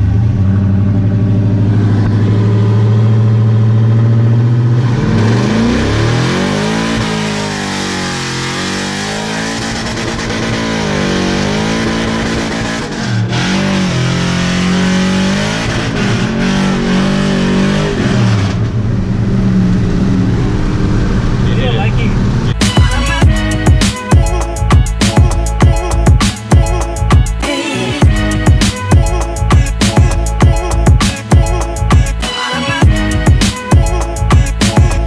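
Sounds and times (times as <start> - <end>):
truck engine accelerating: 0.0 - 35.0.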